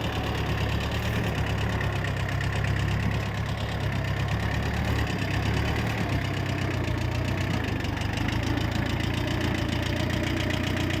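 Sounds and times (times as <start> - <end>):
small tractor engine idling: 0.0 - 11.0.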